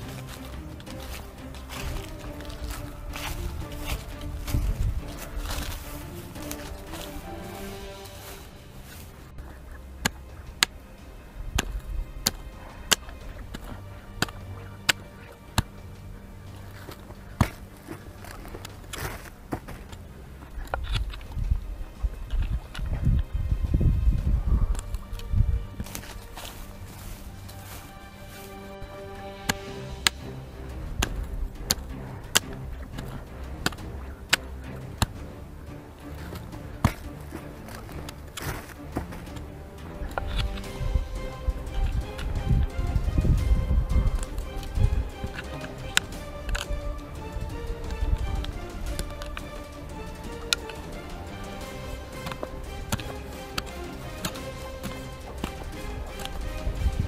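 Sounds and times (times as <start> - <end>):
soft background music: 0.0 - 57.0.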